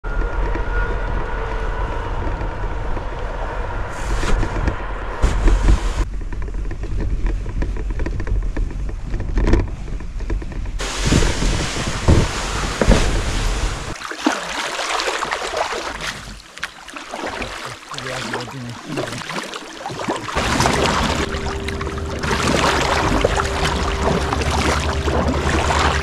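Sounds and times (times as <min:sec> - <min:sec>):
kayak scraping over snow: 0:03.8 - 0:14.0, 0:14.9 - 0:26.0.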